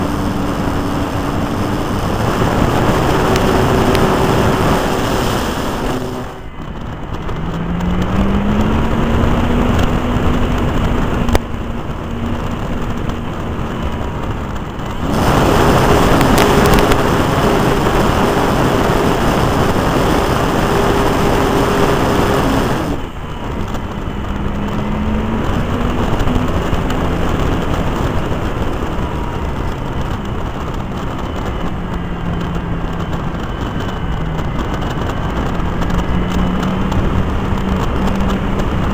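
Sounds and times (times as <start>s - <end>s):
light aircraft engine in flight: 0.0s - 38.9s
rushing airflow: 0.0s - 38.9s.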